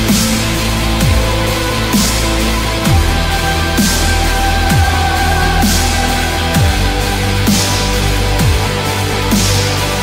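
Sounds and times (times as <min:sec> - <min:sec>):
music with heavy beat: 0:00.0 - 0:10.0
falling bass slide: 0:00.1 - 0:10.0.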